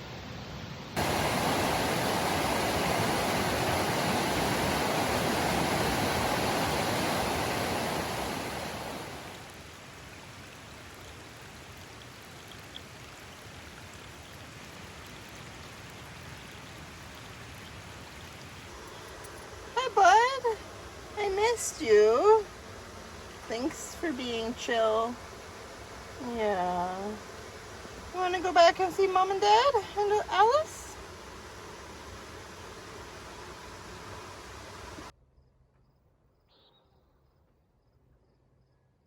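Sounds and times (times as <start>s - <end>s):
creek water rushing: 1.0s - 35.1s.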